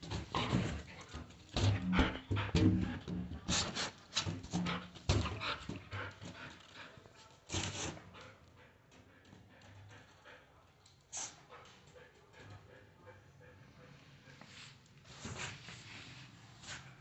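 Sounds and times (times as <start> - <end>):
dog panting: 0.1 - 17.0.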